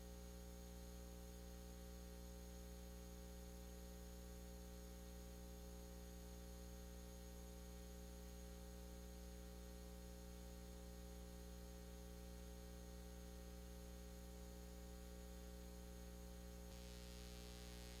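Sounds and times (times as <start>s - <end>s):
faint mains hum and hiss: 0.0s - 18.0s.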